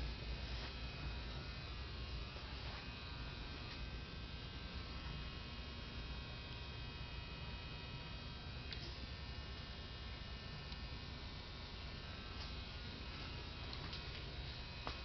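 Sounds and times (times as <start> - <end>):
electrical hum: 0.0 - 15.0
faint high whine: 0.0 - 15.0.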